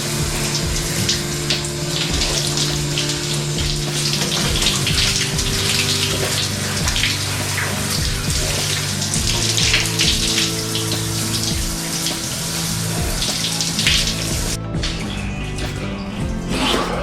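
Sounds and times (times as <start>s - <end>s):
shower spray running: 0.0s - 15.8s
background music: 0.0s - 17.0s.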